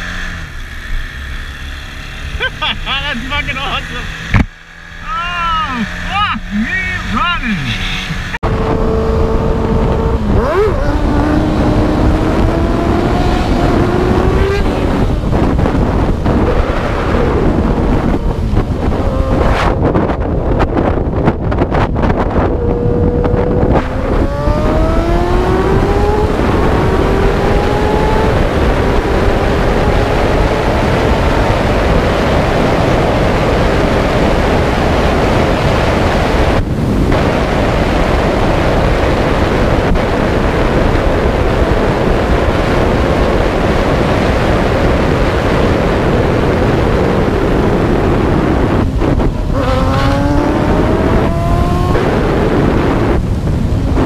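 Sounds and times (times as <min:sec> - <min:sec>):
motorcycle engine accelerating: 0:00.0 - 0:54.0
wind rush on microphone: 0:00.0 - 0:54.0.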